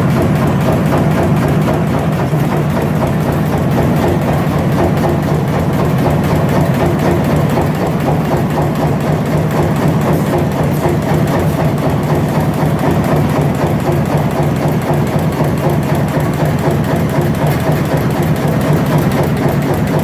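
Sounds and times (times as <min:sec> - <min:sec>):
punch press running: 0:00.0 - 0:20.0.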